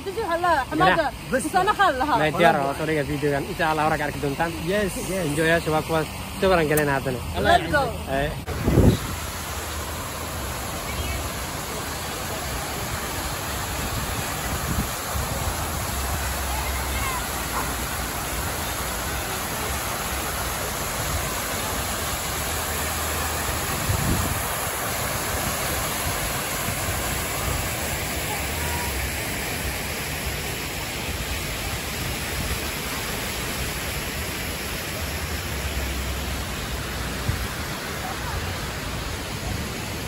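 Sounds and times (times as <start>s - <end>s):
fountain jets splashing into pool: 0.0s - 40.0s.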